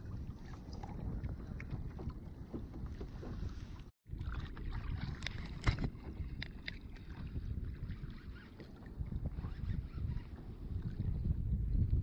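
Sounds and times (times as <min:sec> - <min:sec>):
water moving against kayak: 0:00.0 - 0:12.0
wind rumbling on microphone: 0:00.0 - 0:12.0.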